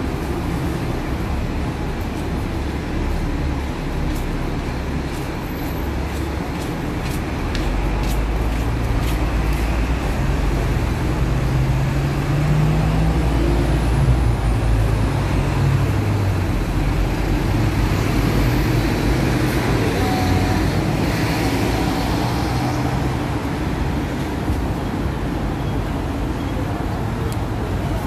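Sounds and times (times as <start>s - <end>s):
large vehicle engine running: 0.0s - 26.2s
traffic passing on road: 0.0s - 28.0s.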